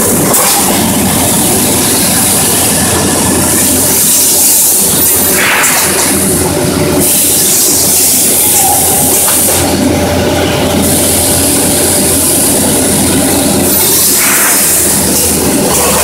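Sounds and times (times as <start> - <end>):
grinding machine running: 0.0 - 16.0.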